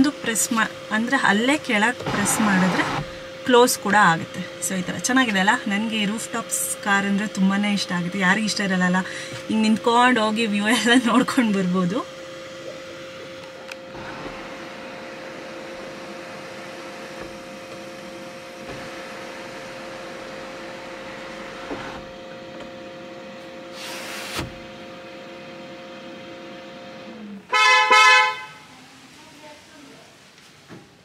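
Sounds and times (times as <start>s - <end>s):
electric hum inside car: 0.0s - 28.6s.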